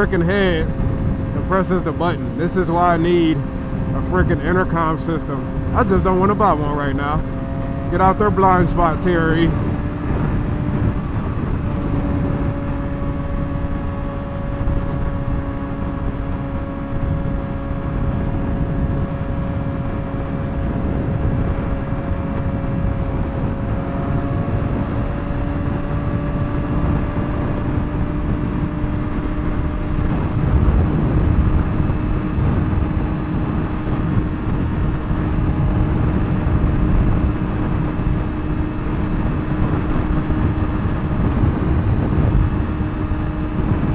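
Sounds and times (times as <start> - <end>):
motorcycle engine cruising: 0.0 - 43.9
wind rumble: 0.0 - 43.9.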